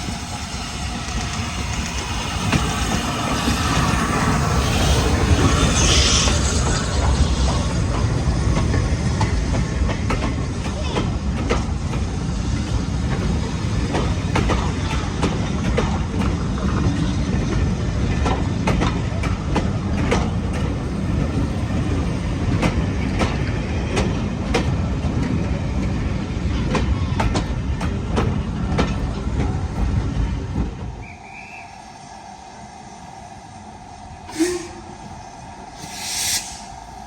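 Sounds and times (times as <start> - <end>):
wheels clicking over rail joints: 0.0 - 30.9
train rumbling on track: 0.0 - 37.0.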